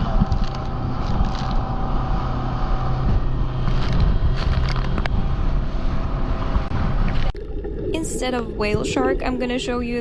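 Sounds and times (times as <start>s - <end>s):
speedboat engine humming: 0.0s - 10.0s.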